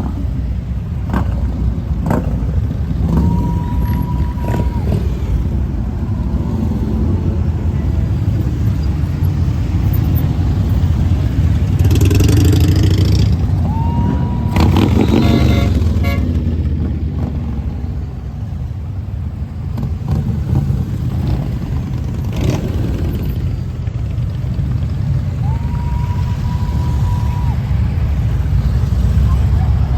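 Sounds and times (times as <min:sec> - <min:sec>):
motorcycle engines rumbling: 0:00.0 - 0:29.9.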